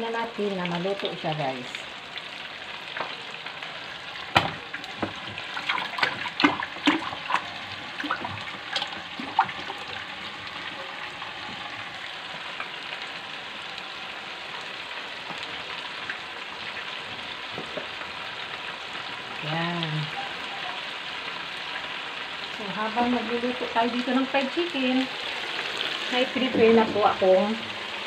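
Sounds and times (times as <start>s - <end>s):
oil sizzling in deep fryer: 0.0s - 28.0s.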